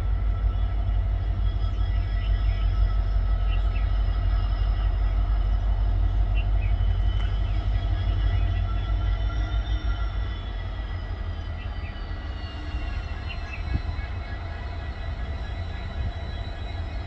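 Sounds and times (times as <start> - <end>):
locomotive engine rumble: 0.0 - 17.0.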